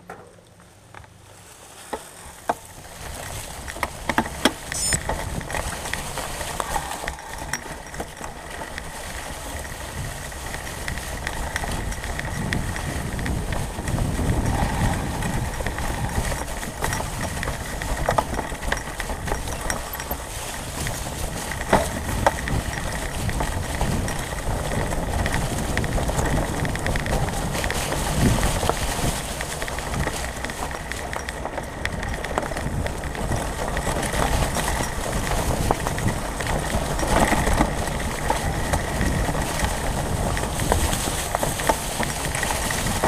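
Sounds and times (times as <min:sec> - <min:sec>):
bike clicks and rattles: 0:00.0 - 0:43.0
bike tyres crunching dry leaves: 0:00.4 - 0:43.0.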